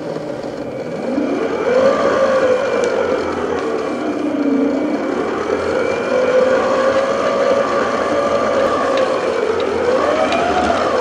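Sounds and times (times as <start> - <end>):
electric stand mixer running: 0.0 - 11.0.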